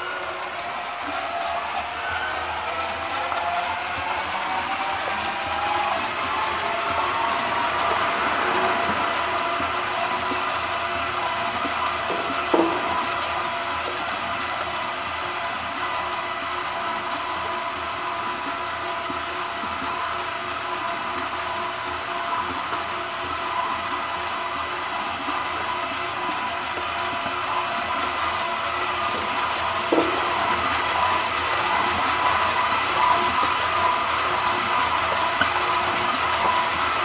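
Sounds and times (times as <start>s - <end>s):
churning hiss of foamy mix: 0.0s - 37.0s
mixing tank motor whine: 0.0s - 37.0s.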